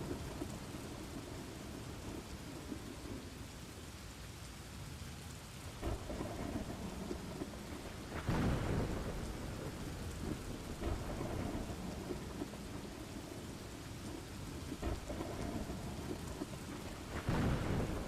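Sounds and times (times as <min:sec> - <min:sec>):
rumbling thunder: 0:00.0 - 0:03.4, 0:05.8 - 0:18.0
steady rain: 0:00.0 - 0:18.0.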